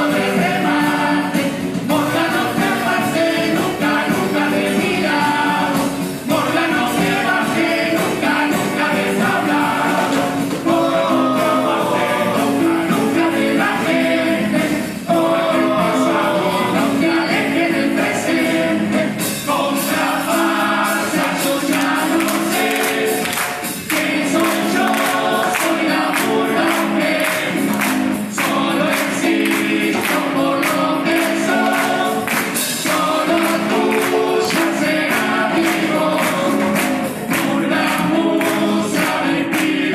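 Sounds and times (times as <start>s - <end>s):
chorus singing in harmony: 0.0s - 39.9s
drums and cymbals: 0.0s - 39.9s.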